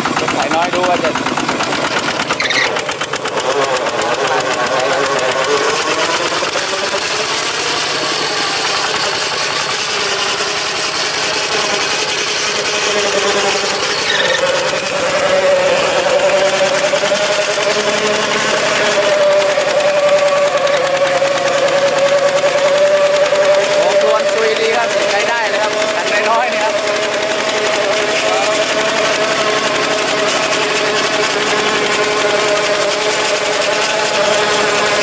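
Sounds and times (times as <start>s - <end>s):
diesel tractor engine running: 0.0s - 35.0s
rotary tiller through soil: 0.0s - 35.0s.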